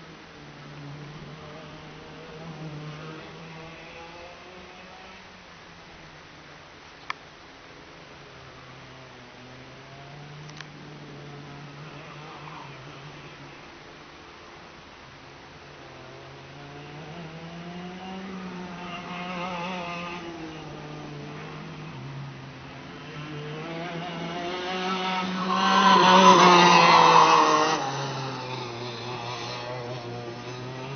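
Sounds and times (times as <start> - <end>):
kart passing by: 0.0 - 6.1, 8.2 - 30.9
go-kart engines running: 0.0 - 30.9.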